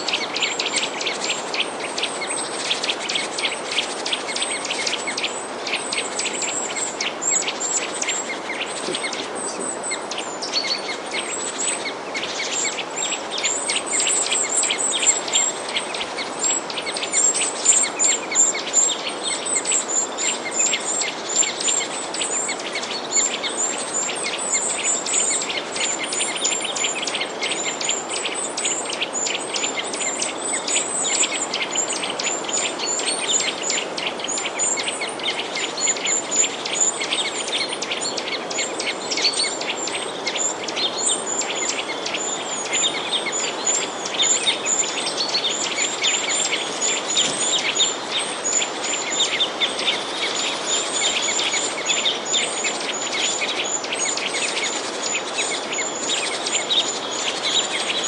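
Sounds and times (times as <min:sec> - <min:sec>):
small birds chirping: 0:00.0 - 0:58.0
steady background hiss: 0:00.0 - 0:58.0.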